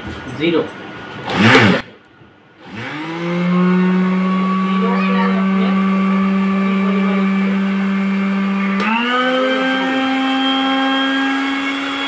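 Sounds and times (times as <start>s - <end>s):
blender motor whine: 1.3s - 1.8s, 2.6s - 12.0s.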